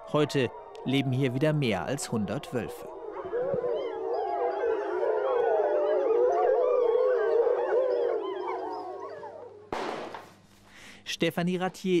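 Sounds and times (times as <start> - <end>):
wolves howling in chorus: 0.0 - 9.7.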